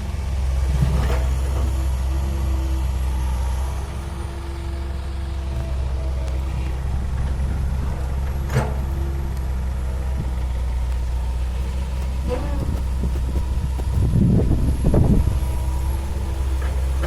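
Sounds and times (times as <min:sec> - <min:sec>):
heavy diesel machinery droning: 0:00.0 - 0:17.0.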